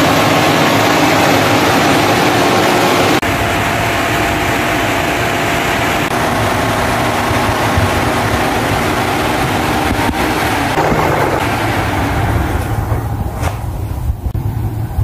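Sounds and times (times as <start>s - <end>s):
faint motor hum: 0.0s - 15.0s
fan air rush: 0.0s - 15.0s.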